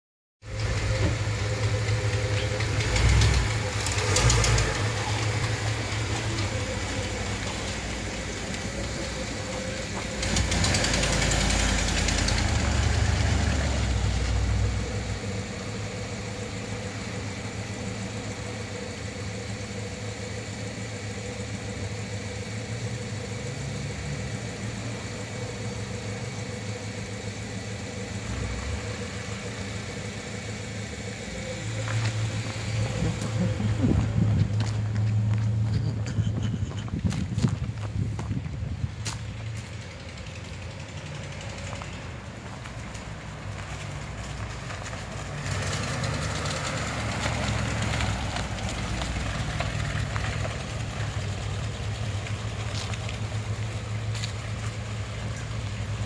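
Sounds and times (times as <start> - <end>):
car engine idling: 0.4 - 56.0.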